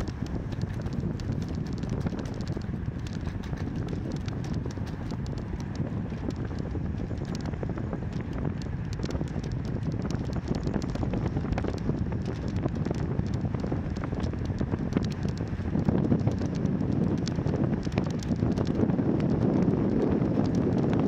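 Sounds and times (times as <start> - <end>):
bicycle clicks and rattles: 0.0 - 21.0
wind rushing over microphone: 0.0 - 21.0.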